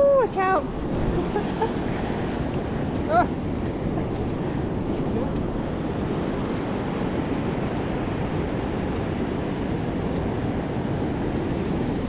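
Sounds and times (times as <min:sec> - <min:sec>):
surf washing onto beach: 0:00.0 - 0:12.0
wind rumbling on microphone: 0:00.0 - 0:12.0.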